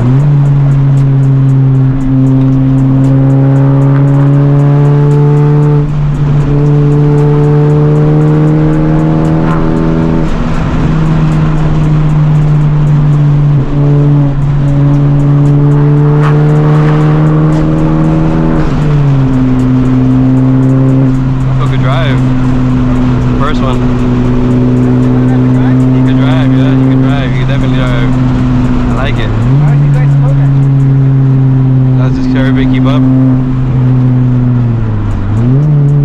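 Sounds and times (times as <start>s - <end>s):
turbocharged car engine accelerating: 0.0s - 36.0s.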